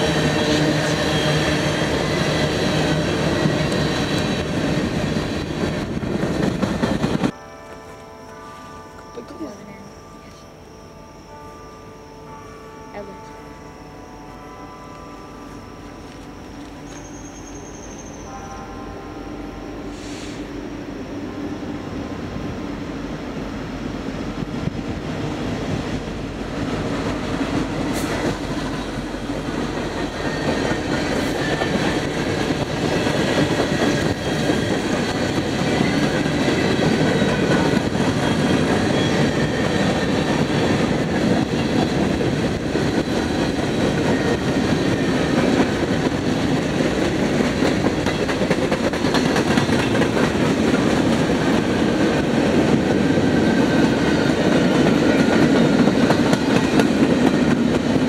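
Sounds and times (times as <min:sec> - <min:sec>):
steel wheels rumbling on rails: 0:00.0 - 0:07.4, 0:15.5 - 0:58.0
diesel locomotive passing: 0:00.0 - 0:11.2, 0:11.9 - 0:58.0.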